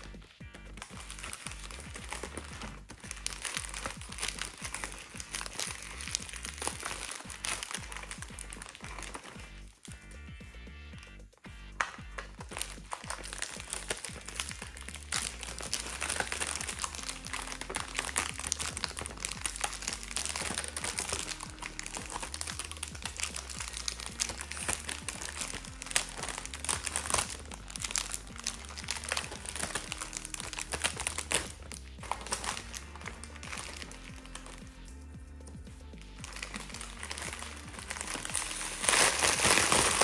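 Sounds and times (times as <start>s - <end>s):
foil wrapper crinkling: 0.0s - 10.0s, 11.8s - 34.9s, 36.0s - 40.0s
background music: 0.0s - 40.0s.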